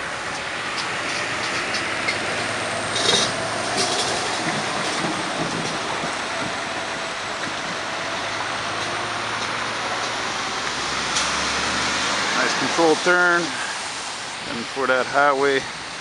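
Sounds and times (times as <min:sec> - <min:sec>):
truck engine running low: 0:00.0 - 0:16.0
truck tyres hissing through water: 0:00.0 - 0:16.0.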